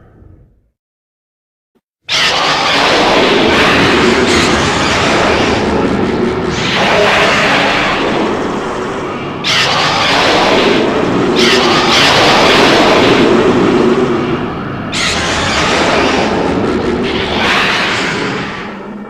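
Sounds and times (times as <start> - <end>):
harsh blast-like sounds: 2.1 - 19.0.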